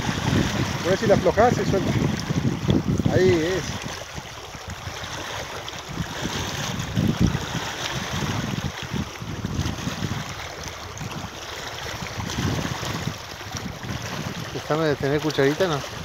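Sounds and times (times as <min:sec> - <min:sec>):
small waves lapping on rocks: 0:00.0 - 0:16.0
wind buffeting microphone: 0:00.0 - 0:16.0.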